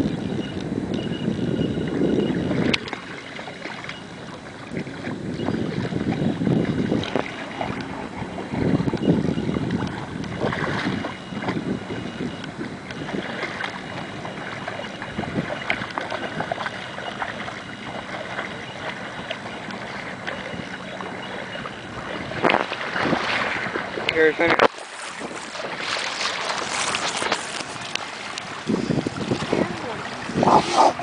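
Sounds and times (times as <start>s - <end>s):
wind buffeting microphone: 0.0s - 3.1s, 4.0s - 31.0s
splashing in shallow water: 0.0s - 31.0s.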